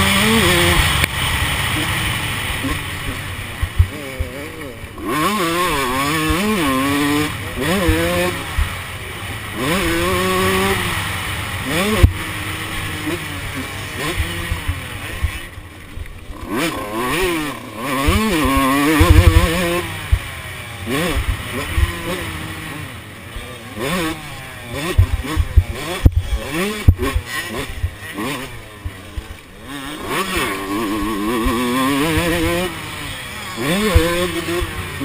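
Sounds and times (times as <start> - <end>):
two-stroke motocross engine revving: 0.0 - 35.0.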